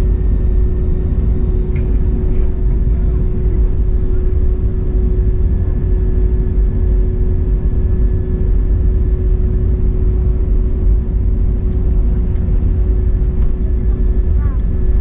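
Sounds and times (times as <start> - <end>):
airplane cabin rumble: 0.0 - 15.0
steady cabin hum: 0.0 - 15.0.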